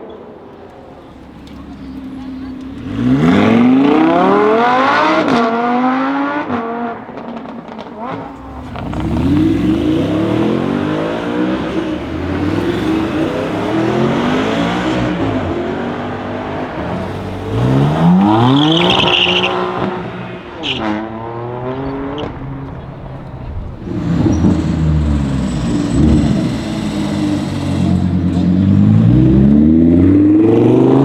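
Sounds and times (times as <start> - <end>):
car engine revving and accelerating: 0.8 - 31.0.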